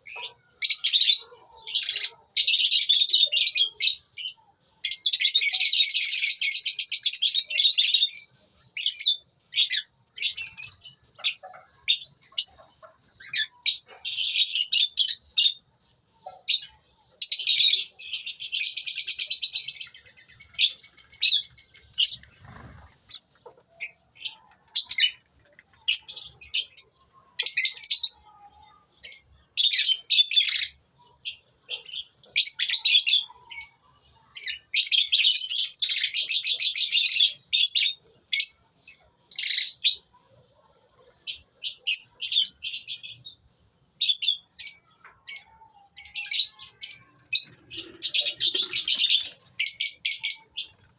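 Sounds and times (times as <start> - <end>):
lovebirds chattering: 0.0 - 50.9.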